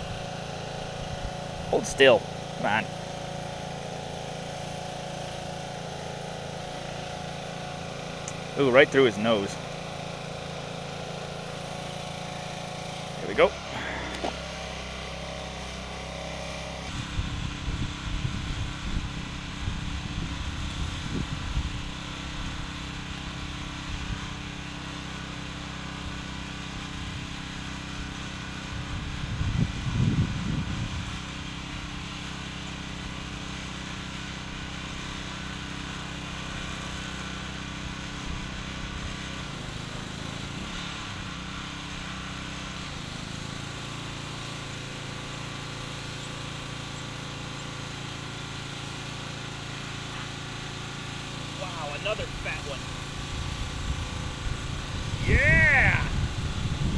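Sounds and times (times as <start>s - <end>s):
low motor-like hum: 0.0s - 56.9s.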